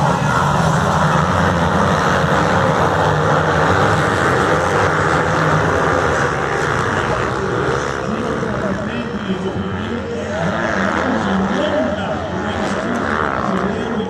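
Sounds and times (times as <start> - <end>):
motorcycles racing at high revs: 0.0 - 14.0.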